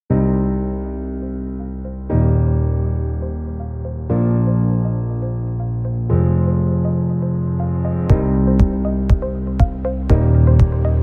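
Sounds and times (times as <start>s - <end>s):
sustained keyboard chord: 0.2s - 11.0s.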